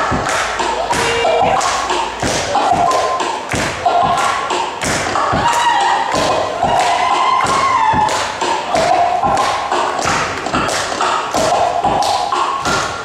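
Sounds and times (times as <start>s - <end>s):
belly-dance music over a pa: 0.0s - 13.0s.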